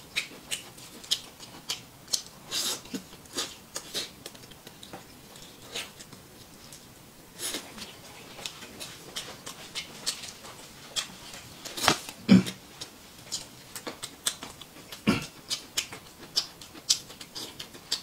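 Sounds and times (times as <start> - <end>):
man chewing food: 0.0 - 18.0.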